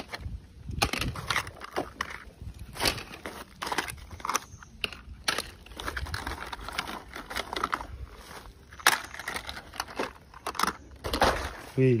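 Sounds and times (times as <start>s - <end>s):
plastic toys clattering: 0.0s - 12.0s.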